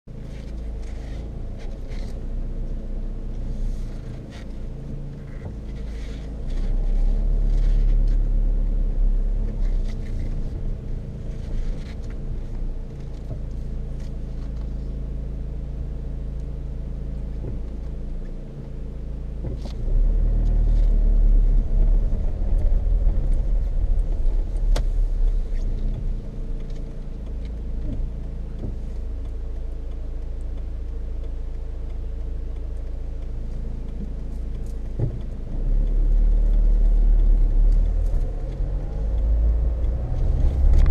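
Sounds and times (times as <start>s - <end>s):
engine running: 0.1s - 40.9s
tyre road noise drone: 0.1s - 40.9s.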